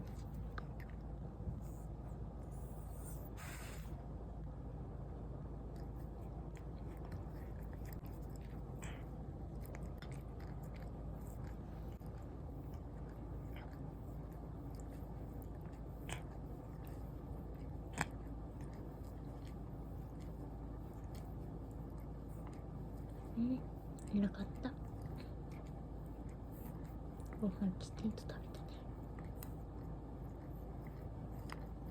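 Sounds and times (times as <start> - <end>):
low room hum: 0.0 - 31.9
cat chewing clicks: 5.7 - 31.9.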